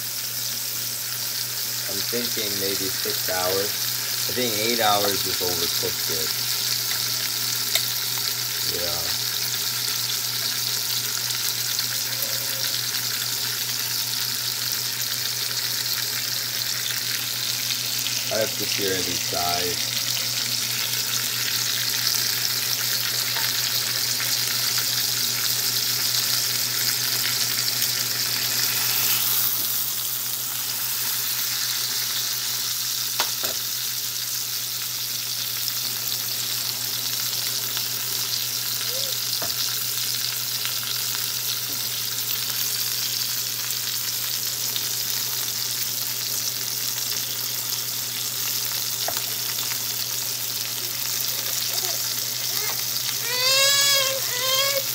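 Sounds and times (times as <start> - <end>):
meat sizzling in a frying pan: 0.0 - 54.9.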